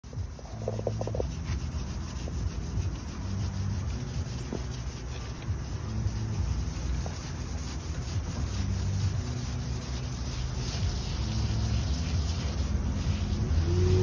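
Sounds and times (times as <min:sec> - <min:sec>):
scouring pad scrubbing metal: 0:00.0 - 0:14.0.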